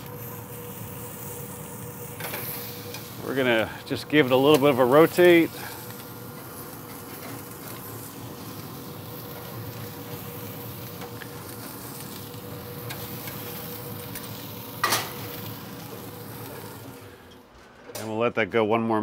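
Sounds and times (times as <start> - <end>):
burgers sizzling on grill: 0.0 - 17.3.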